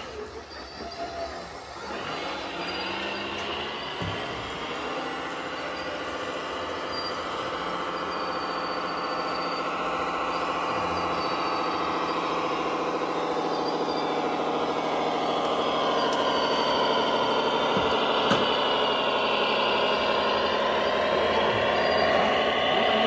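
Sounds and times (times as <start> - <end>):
model vehicle motor whirring: 0.0 - 23.0.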